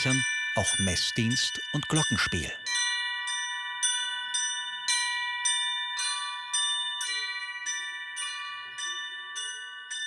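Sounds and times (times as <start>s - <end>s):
small church bells chiming: 0.0s - 10.0s.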